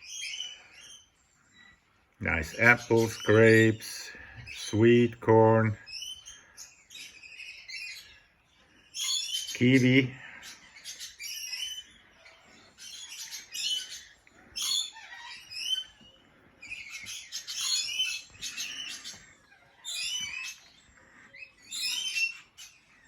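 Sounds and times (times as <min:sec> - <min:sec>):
parrots chirping and squawking: 0:00.0 - 0:23.0.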